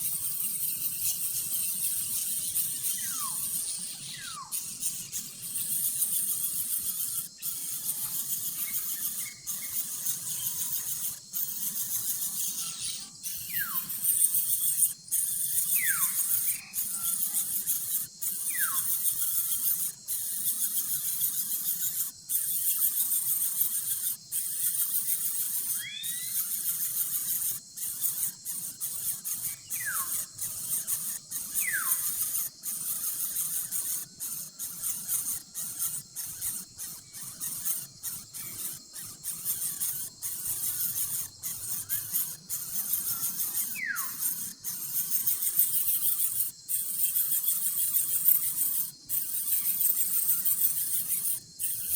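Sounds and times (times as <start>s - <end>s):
birds hissing chorus: 0.2s - 21.6s, 24.2s - 51.9s.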